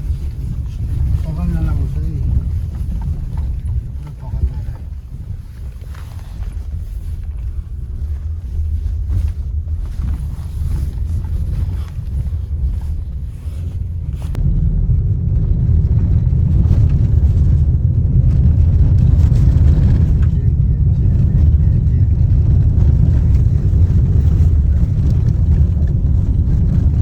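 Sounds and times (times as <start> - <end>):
vehicle rumble: 0.0 - 27.0
wind noise on microphone: 0.0 - 27.0.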